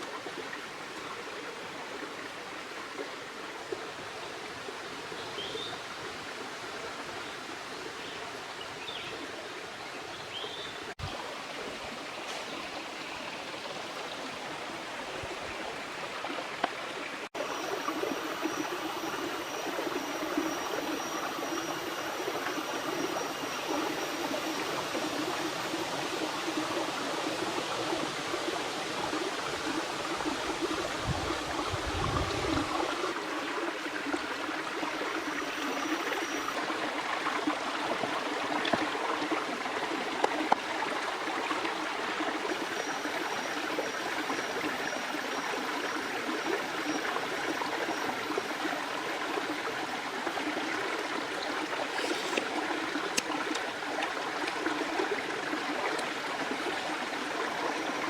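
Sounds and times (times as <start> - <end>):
river water rushing: 11.2 - 58.0.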